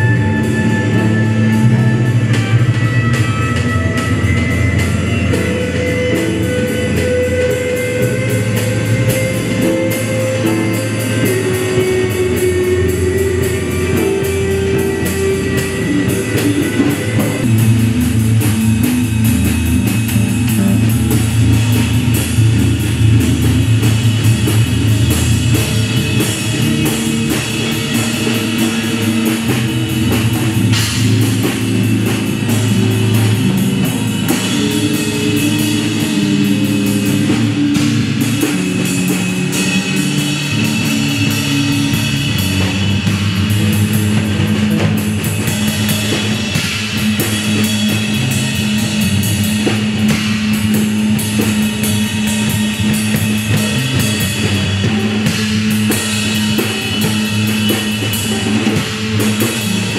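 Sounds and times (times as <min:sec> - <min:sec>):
bass notes: 0:00.0 - 0:59.9
drums and cymbals: 0:00.0 - 0:59.9
live rock band playing: 0:00.0 - 0:59.9.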